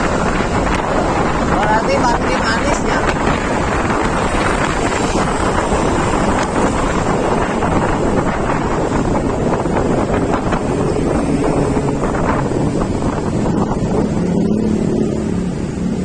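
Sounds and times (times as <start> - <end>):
vehicle noise: 0.0 - 16.0
wind buffeting microphone: 0.0 - 16.0.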